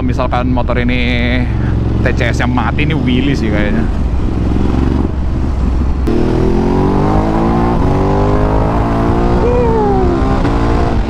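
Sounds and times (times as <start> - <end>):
motorcycle engine accelerating: 1.5 - 11.0.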